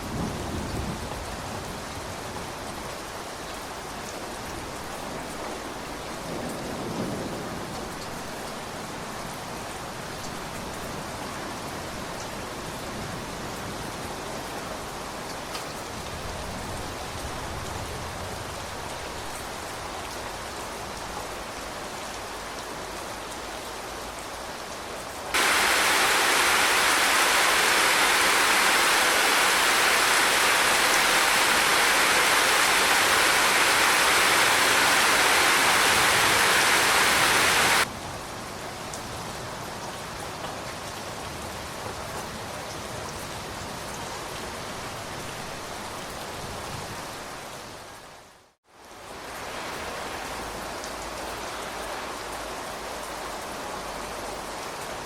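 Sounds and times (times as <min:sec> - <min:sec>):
heavy rain: 0:00.0 - 0:55.0
steady rain falling: 0:00.0 - 0:55.0.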